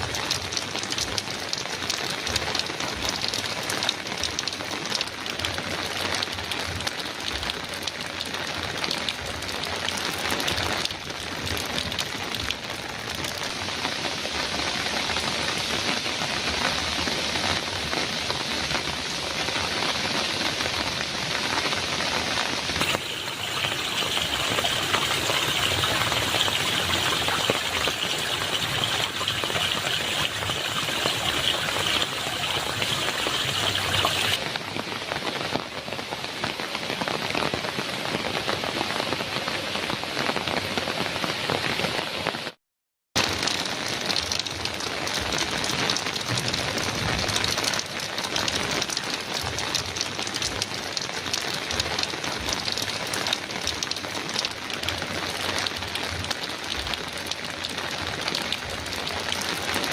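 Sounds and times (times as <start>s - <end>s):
heavy rain on a metal roof: 0.0s - 42.6s, 43.2s - 59.9s.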